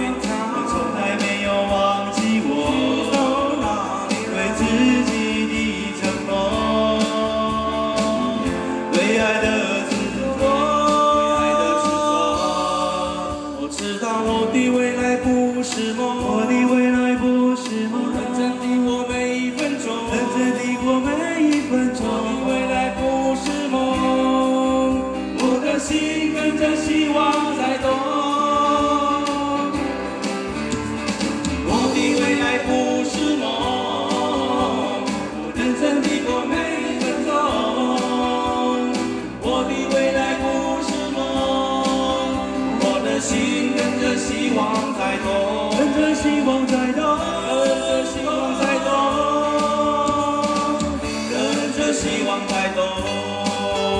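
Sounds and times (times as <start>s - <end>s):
men singing in harmony: 0.0s - 30.8s, 31.4s - 53.9s
electric guitars and bass: 0.0s - 53.9s
steady drum beat: 0.0s - 53.9s.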